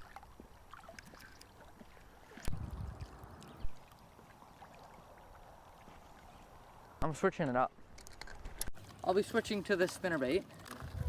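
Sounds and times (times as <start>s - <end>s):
water lapping around boat: 0.0s - 7.0s, 8.7s - 11.0s.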